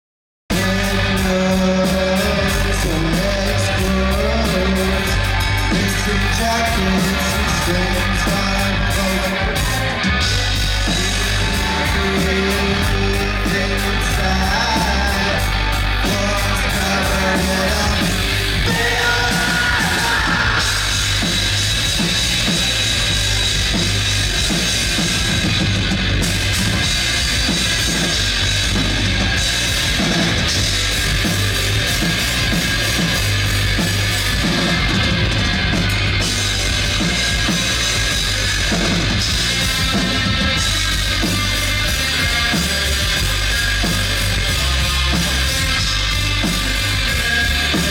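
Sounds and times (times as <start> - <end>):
heavy rock music with singing: 0.5 - 47.9.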